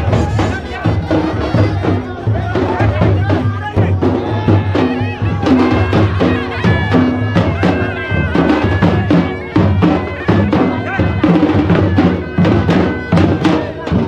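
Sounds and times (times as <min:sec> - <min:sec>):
barrel drums beating: 0:00.0 - 0:14.0
crowd voices: 0:00.0 - 0:14.0
shrill wind instrument melody: 0:00.0 - 0:14.0.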